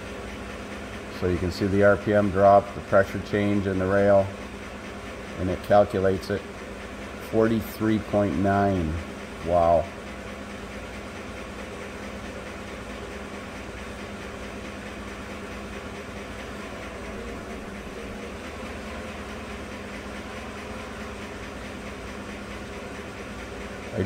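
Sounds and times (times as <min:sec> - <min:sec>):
truck engine idling: 0:00.0 - 0:24.0
valve-train noise: 0:00.0 - 0:24.0.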